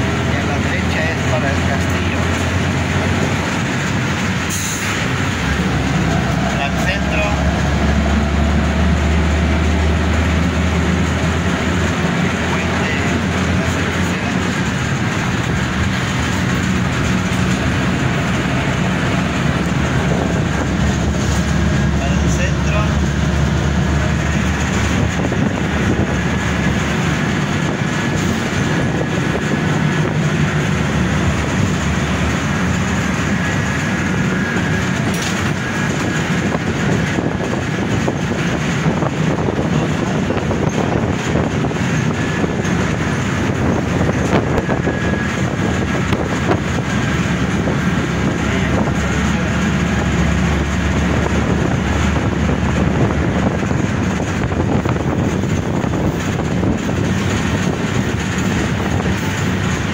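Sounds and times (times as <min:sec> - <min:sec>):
bus engine and road noise: 0:00.0 - 0:59.9
rattles from bus body and windows: 0:00.0 - 0:59.9.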